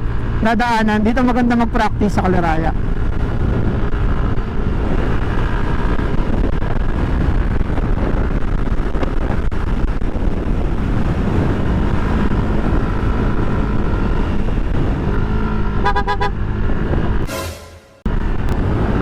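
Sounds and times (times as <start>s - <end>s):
motorcycle engine running: 0.0s - 17.3s
wind noise on microphone: 0.0s - 17.3s, 18.0s - 19.0s.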